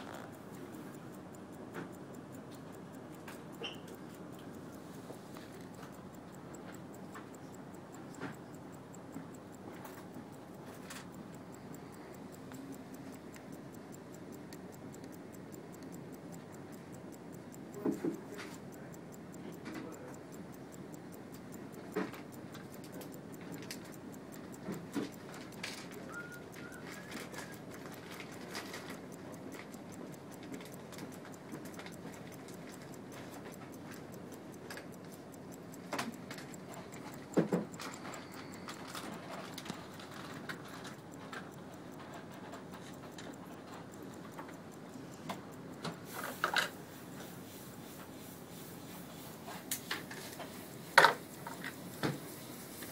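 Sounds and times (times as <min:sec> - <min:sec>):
pocket watch ticking: 0:00.0 - 0:52.9.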